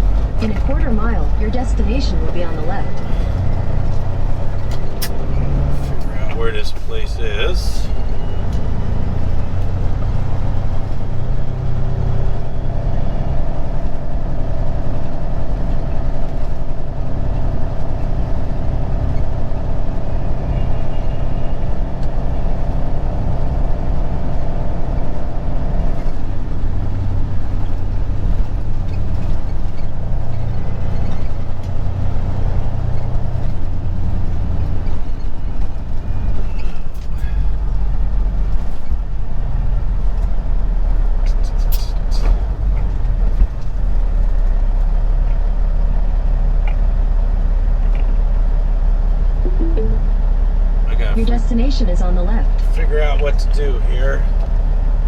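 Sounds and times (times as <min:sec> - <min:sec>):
truck diesel engine rumble: 0:00.0 - 0:55.0.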